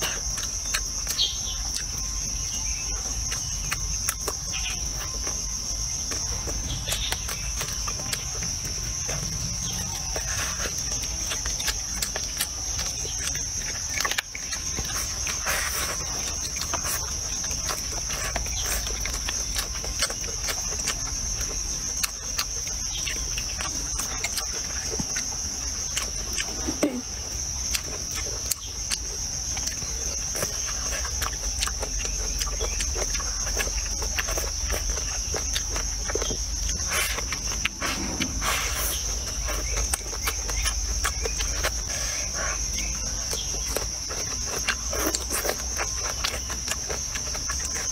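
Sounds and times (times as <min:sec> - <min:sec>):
insect chorus: 0:00.0 - 0:47.9
wet chewing and smacking: 0:00.0 - 0:47.9.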